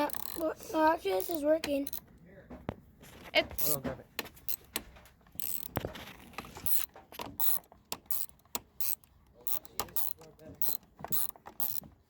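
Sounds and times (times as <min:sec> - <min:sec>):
screwdriver clicking and scraping: 0:00.0 - 0:02.1, 0:03.2 - 0:12.0.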